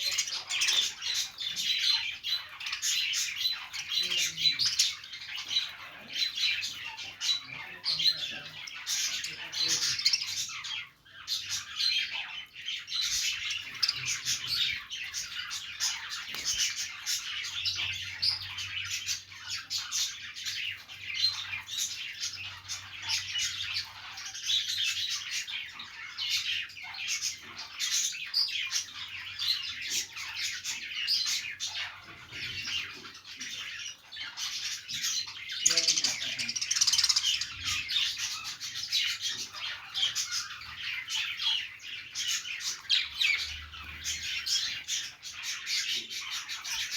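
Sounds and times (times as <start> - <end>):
budgerigars chattering and chirping: 0.0 - 46.9.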